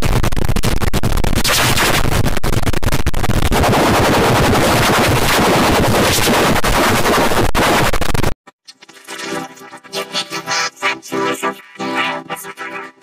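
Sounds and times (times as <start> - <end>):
distorted electronic noise: 0.0 - 13.0.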